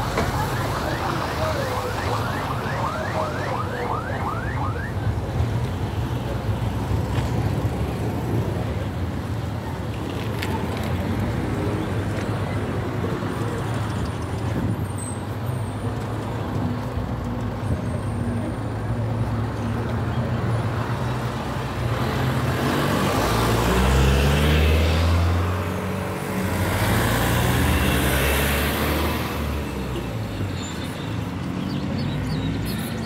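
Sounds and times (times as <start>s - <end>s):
road traffic: 0.0s - 33.0s
vehicles passing: 0.0s - 33.0s.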